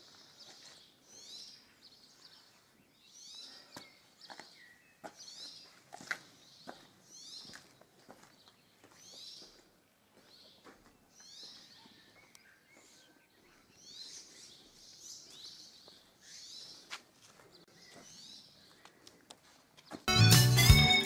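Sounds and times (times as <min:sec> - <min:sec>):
small birds chirping: 0:00.0 - 0:20.1.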